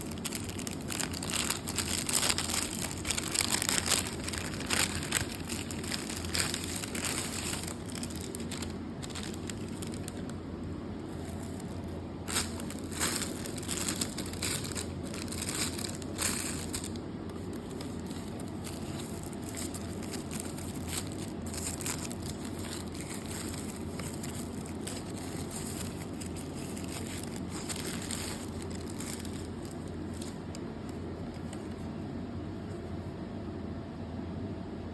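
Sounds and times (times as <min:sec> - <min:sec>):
packaging crinkling: 0:00.0 - 0:31.9
steady low hum: 0:00.0 - 0:34.9.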